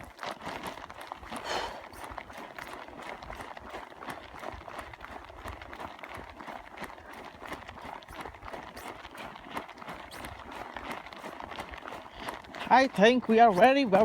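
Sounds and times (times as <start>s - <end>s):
footsteps on outdoor path: 0.0s - 14.0s.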